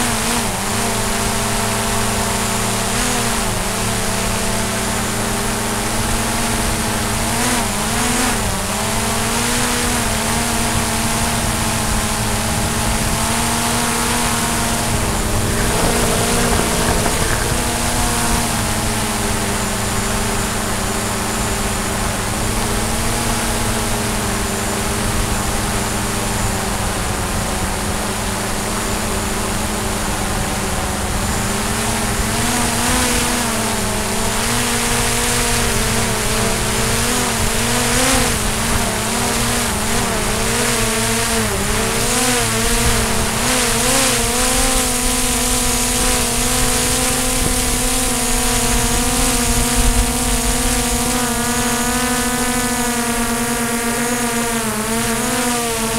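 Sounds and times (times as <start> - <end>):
drone propellers whining: 0.0 - 55.9.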